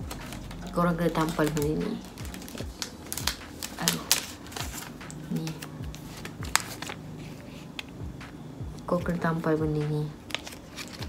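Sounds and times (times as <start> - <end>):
plastic sachet crinkling: 0.0 - 8.0, 10.1 - 11.0.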